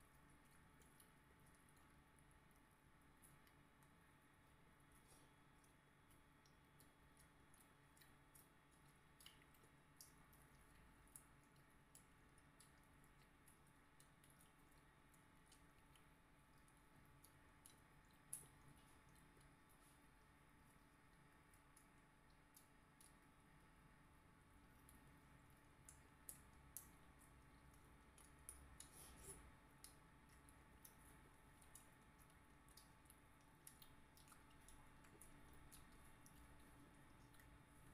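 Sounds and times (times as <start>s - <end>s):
low steady room hum: 0.0s - 37.9s
wet chewing and eating sounds: 0.0s - 37.9s.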